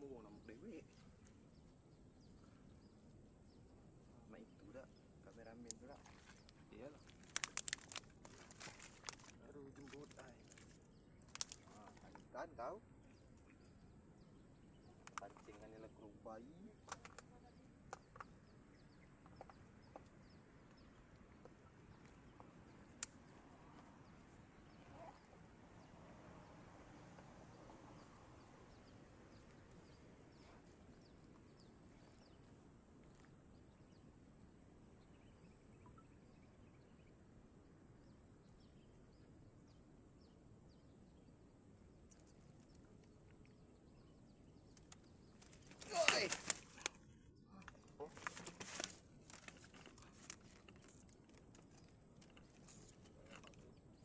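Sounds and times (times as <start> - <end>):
faint outdoor ambience: 0.0 - 54.0.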